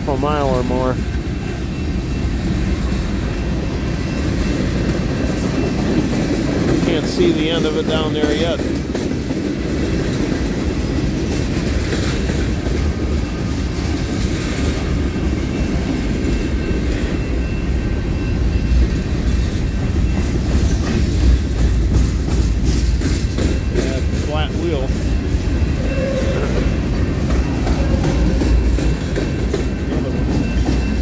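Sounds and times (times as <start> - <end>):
train wheels rumbling on rails: 0.0 - 31.0
wheels clicking over rail joints: 2.6 - 17.4, 18.7 - 31.0.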